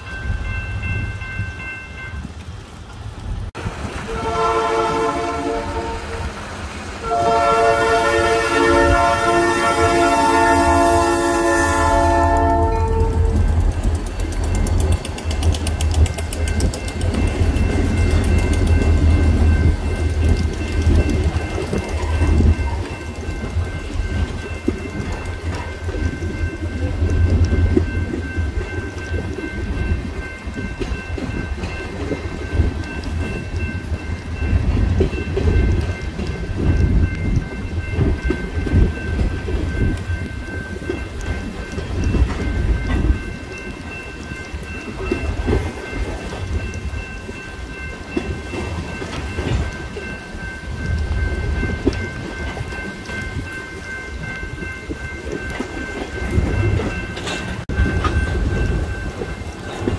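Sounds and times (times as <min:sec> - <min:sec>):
crossing signal bell: 0:00.0 - 0:02.4, 0:07.0 - 0:59.9
diesel locomotives rumbling: 0:00.0 - 0:59.9
train wheels rumbling: 0:00.0 - 0:59.9.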